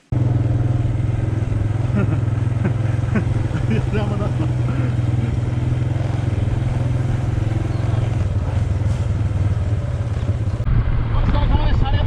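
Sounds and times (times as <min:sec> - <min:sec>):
motorcycle engine running: 0:00.0 - 0:10.7
road noise: 0:00.0 - 0:12.0.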